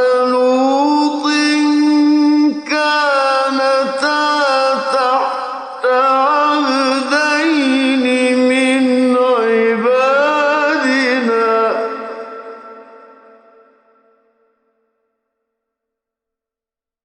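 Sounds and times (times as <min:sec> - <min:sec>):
man reciting melodically: 0:00.0 - 0:13.7.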